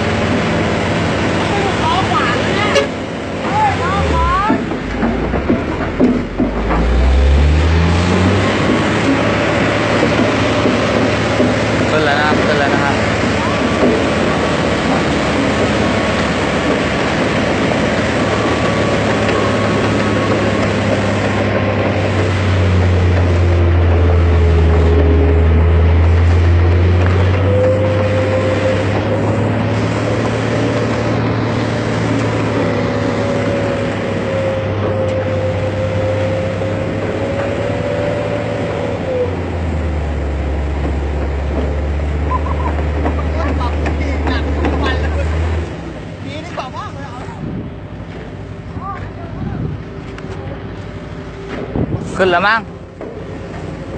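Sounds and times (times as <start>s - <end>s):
heavy diesel engines under load: 0.0s - 53.9s.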